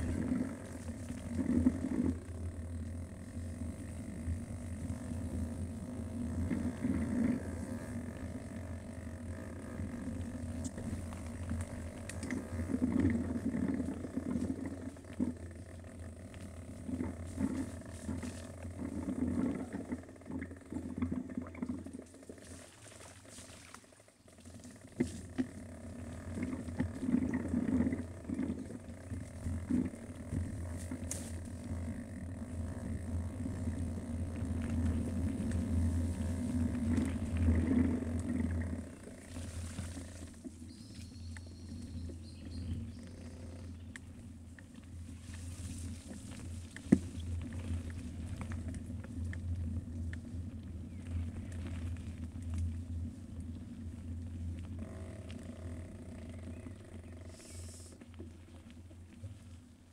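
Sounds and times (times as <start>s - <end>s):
vehicle rumble on dirt track: 0.0s - 21.9s, 24.5s - 58.6s.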